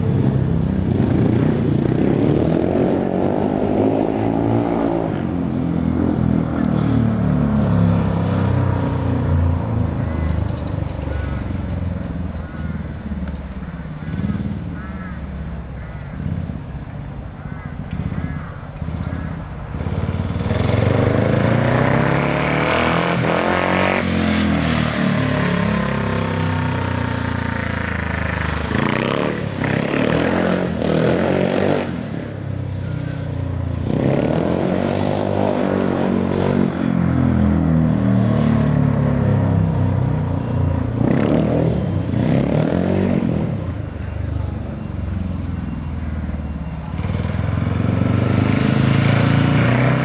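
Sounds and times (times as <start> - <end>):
motorcycle engines revving: 0.0 - 50.0.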